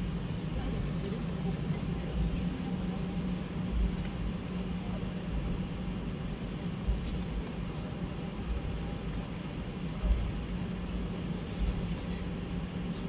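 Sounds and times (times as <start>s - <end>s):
aircraft cabin hum and rumble: 0.0s - 13.0s.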